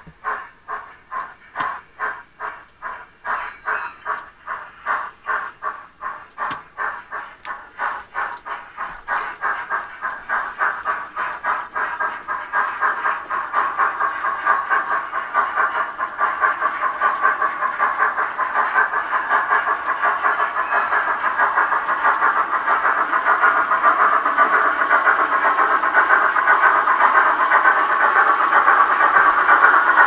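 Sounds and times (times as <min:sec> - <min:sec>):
model steam train chuffing: 0:00.0 - 0:30.0.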